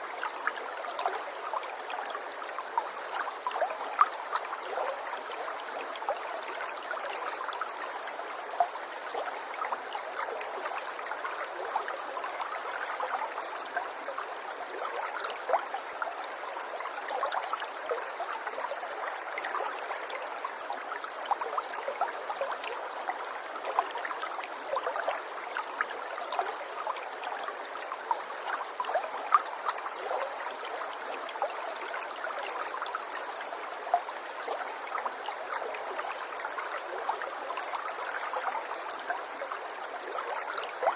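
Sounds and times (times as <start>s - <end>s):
small stream babbling: 0.0s - 40.9s.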